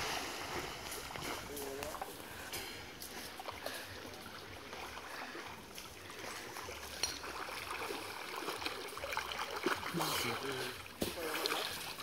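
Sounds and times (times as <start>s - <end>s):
water splashing from swimming: 0.0s - 12.0s.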